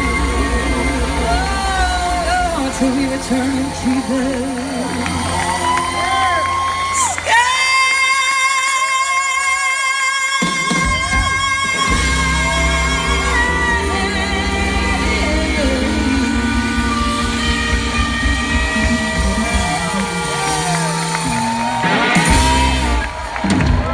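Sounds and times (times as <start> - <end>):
live band music: 0.0 - 7.7, 10.4 - 23.9.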